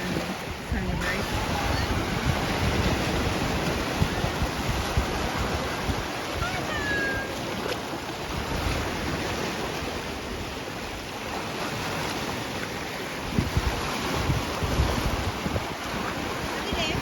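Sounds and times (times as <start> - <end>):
sea waves washing ashore: 0.0 - 17.0
wind buffeting microphone: 0.0 - 17.0.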